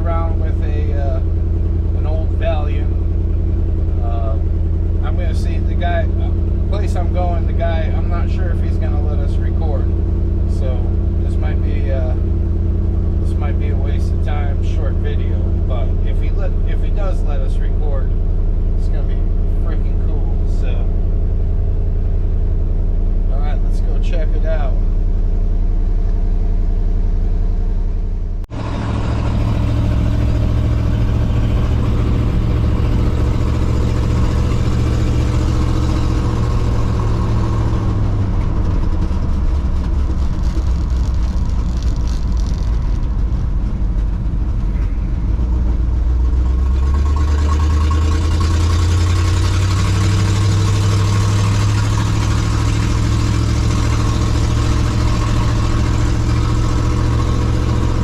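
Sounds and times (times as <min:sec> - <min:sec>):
pickup truck engine hum: 0:00.0 - 0:58.0
road noise: 0:00.0 - 0:58.0.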